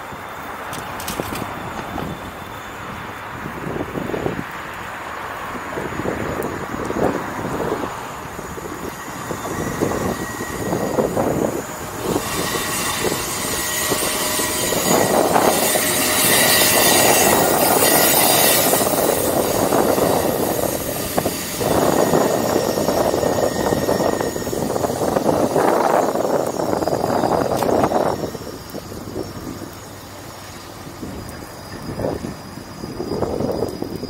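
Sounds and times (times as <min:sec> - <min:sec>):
wind buffeting microphone: 0:00.6 - 0:34.0
rushing noise: 0:05.2 - 0:34.0.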